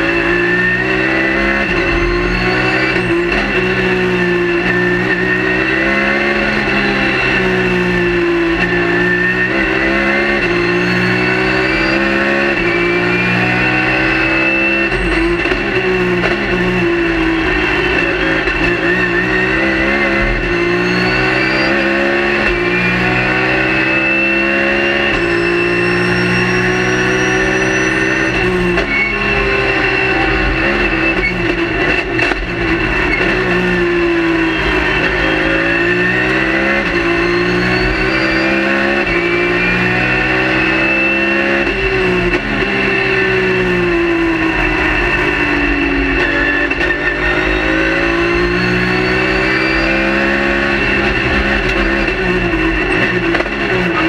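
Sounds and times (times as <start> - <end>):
race car engine revving: 0.0 - 54.0
steady high whine: 0.0 - 54.0.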